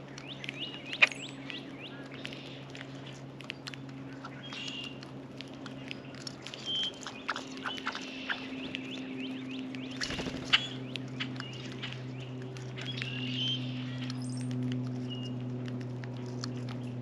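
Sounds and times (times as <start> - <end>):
birds tapping and pecking: 0.0 - 17.0
songbirds chipping: 0.0 - 17.0
steady low hum: 0.0 - 17.0.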